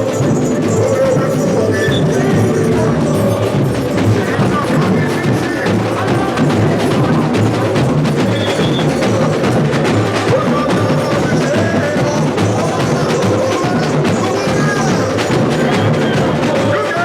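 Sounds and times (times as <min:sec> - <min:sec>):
samba drums playing: 0:00.0 - 0:17.0.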